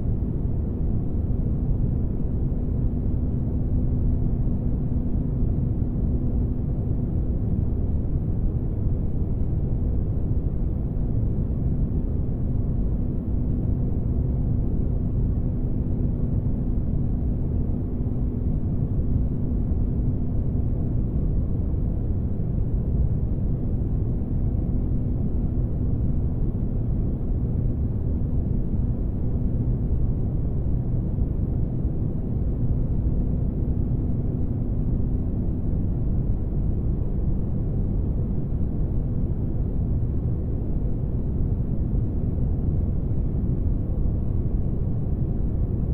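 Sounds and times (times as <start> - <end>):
faint constant hum: 0.0 - 45.9.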